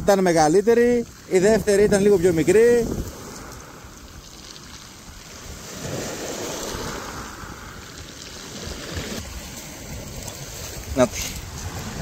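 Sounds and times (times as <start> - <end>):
sea waves washing in: 0.0 - 12.0
wind buffeting microphone: 0.0 - 12.0.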